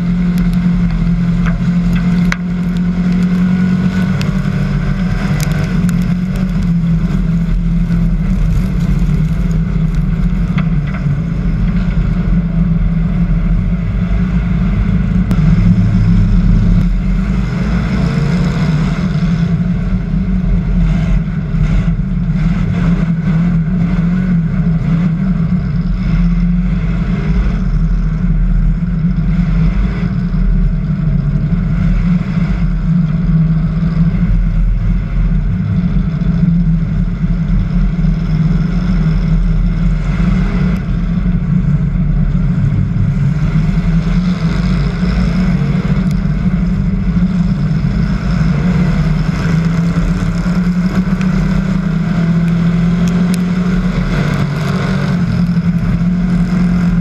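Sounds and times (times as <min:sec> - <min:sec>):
race car engine droning: 0:00.0 - 0:57.0.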